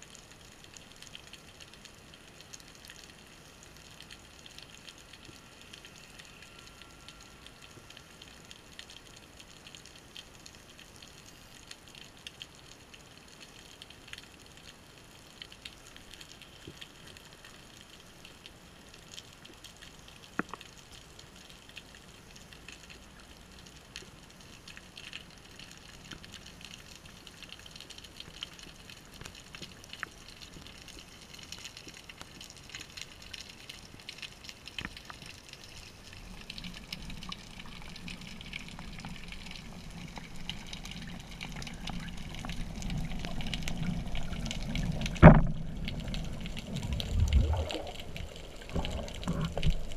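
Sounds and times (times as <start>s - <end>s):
faint crackling ticks: 0.0s - 49.9s.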